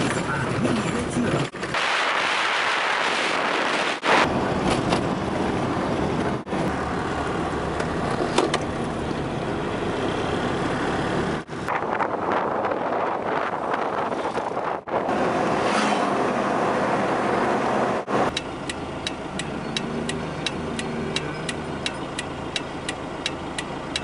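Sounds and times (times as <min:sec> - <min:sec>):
road and wind noise in car: 0:00.0 - 0:24.0.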